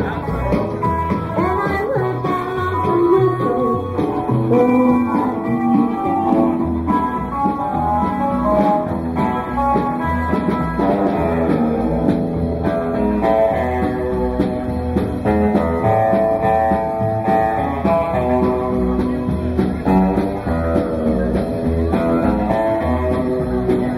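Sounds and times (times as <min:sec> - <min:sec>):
guitar-led music with bass and beat: 0:00.0 - 0:23.9.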